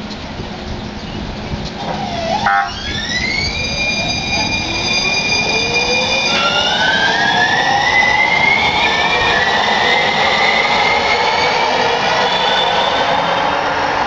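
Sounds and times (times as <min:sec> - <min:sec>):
train rolling noise: 0:00.0 - 0:14.0
train inverters whining: 0:01.6 - 0:14.0.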